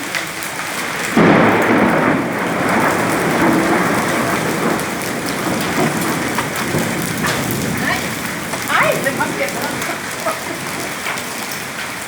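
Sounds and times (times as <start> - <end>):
heavy rain and hail: 0.0 - 12.0
thunderclap rumbling: 0.0 - 12.0.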